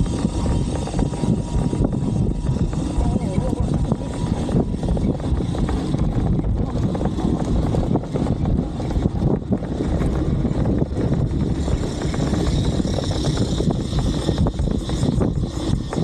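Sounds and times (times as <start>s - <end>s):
low engine rumble: 0.0s - 16.0s
wind buffeting microphone: 0.0s - 16.0s.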